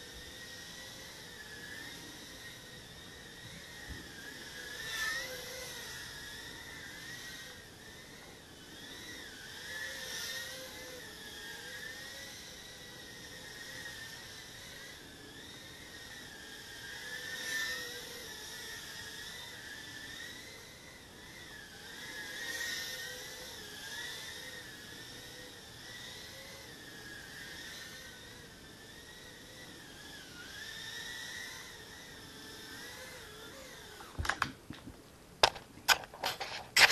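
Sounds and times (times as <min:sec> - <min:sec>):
quadcopter motors whining: 0:00.0 - 0:34.5, 0:35.4 - 0:36.9.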